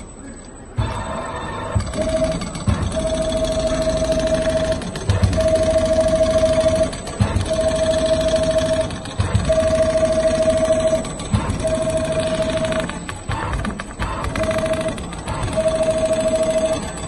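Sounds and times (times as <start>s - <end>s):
sewing machine needle ticking: 1.8s - 17.0s.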